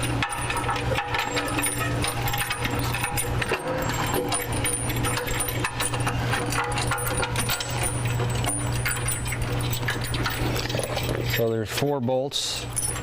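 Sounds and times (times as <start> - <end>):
bolts and washers clinking: 0.0 - 13.0.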